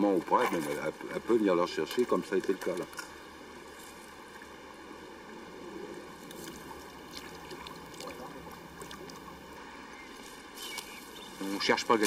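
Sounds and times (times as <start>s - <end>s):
steady hiss: 0.0s - 12.0s
river water splashing: 0.1s - 12.0s.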